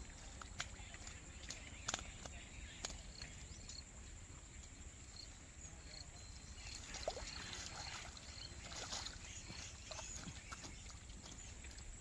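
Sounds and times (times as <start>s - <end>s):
water splashing and sloshing: 0.0s - 4.9s, 6.5s - 12.0s.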